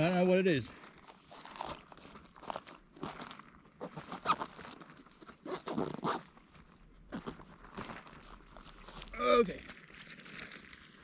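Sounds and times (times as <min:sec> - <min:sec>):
crunching and crinkling rustles: 0:00.0 - 0:11.0.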